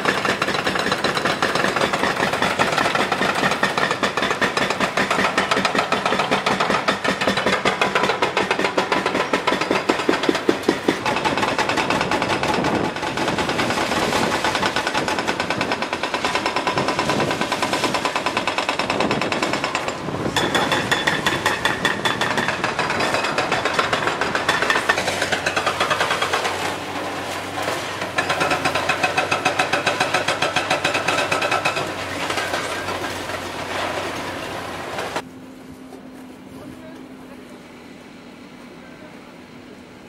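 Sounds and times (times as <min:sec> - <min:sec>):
hydraulic breaker hammering concrete: 0:00.0 - 0:26.9, 0:27.8 - 0:33.0.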